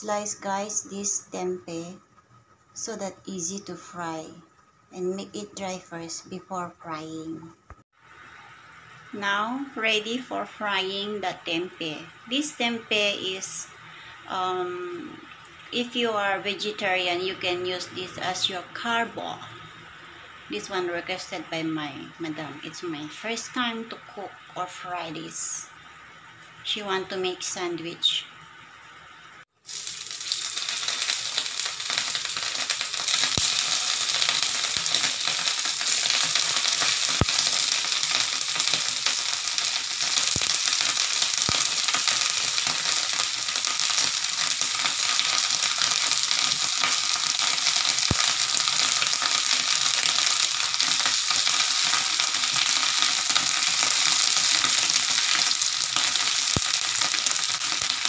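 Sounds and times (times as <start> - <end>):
food sizzling in hot oil: 5.7 - 58.0.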